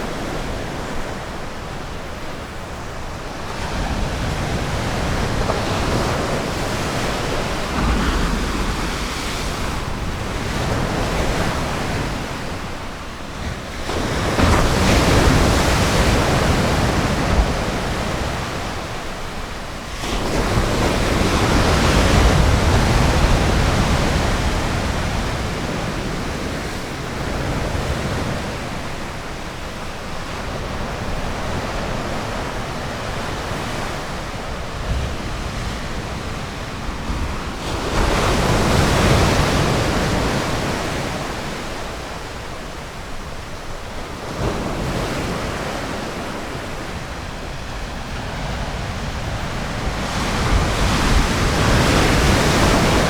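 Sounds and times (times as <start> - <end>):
waves breaking on shore: 0.0 - 53.0.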